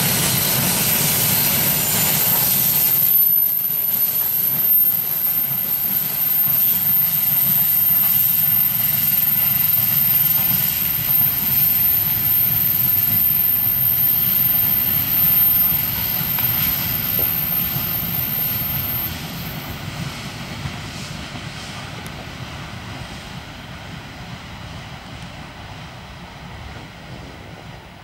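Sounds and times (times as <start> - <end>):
freight train wagons rumbling: 0.0 - 28.0.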